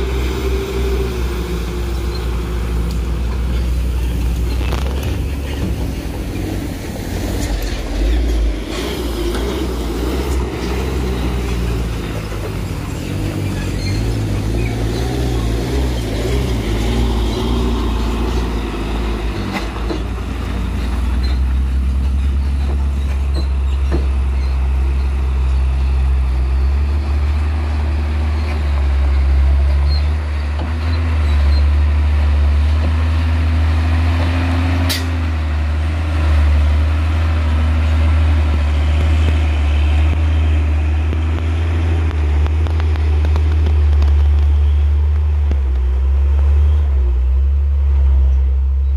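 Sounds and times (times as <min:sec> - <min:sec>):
diesel truck engines labouring: 0:00.0 - 0:48.9.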